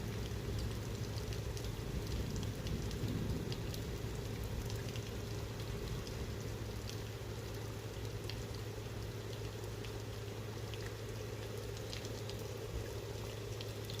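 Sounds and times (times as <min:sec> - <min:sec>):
rain drops pattering: 0:00.0 - 0:14.0.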